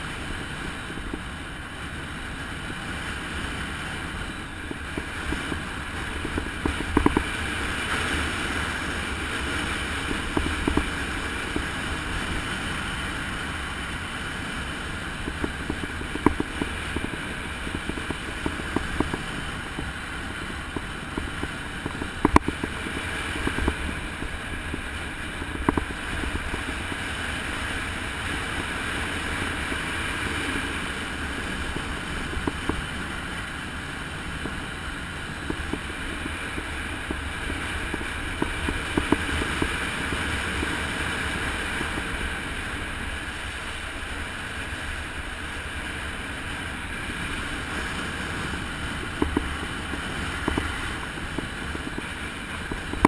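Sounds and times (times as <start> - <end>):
road rumble: 0.0 - 53.0
wind rushing over microphone: 0.0 - 53.0.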